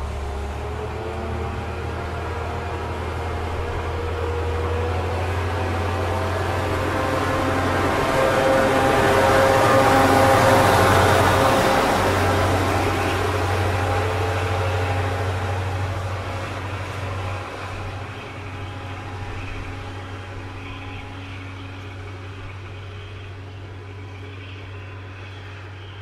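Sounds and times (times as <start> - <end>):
diesel railcar engine drone: 0.0 - 26.0.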